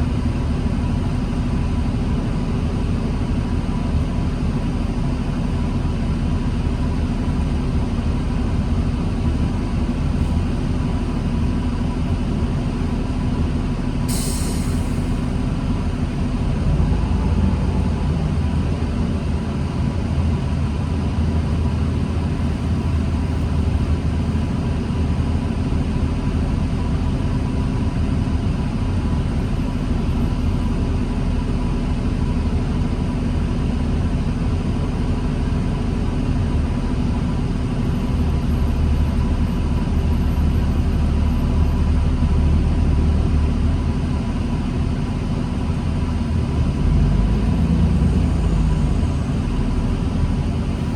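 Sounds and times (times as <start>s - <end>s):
bus engine rumble: 0.0s - 50.9s.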